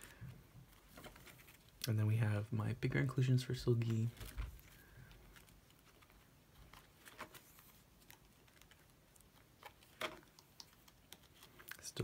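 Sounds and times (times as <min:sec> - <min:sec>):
plastic sleeve pages crinkling: 0:00.0 - 0:01.8, 0:03.7 - 0:12.0.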